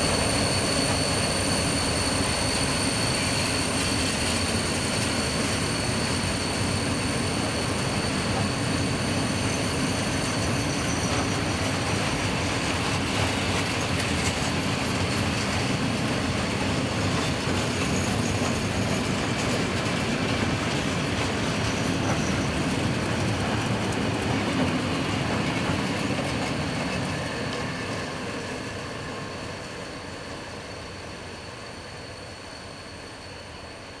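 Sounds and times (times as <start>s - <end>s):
train wheels on rails: 0.0s - 34.0s.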